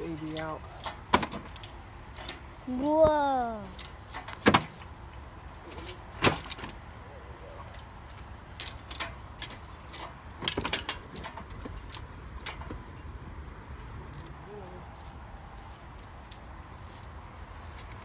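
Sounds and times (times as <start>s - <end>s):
hoist chain clinking: 0.0s - 17.1s.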